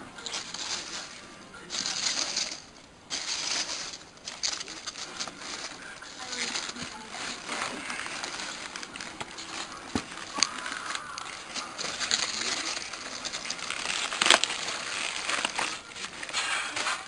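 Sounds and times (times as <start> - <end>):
hand rustling packing peanuts: 0.0 - 17.0.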